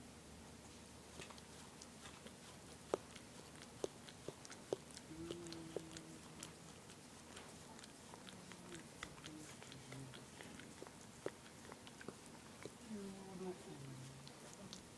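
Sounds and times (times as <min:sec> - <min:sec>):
dog licking: 0:01.0 - 0:14.9.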